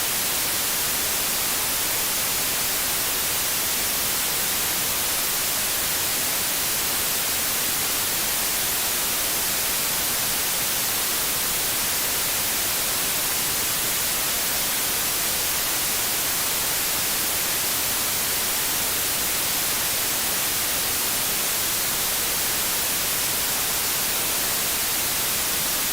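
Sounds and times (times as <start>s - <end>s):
television static hiss: 0.0s - 25.9s.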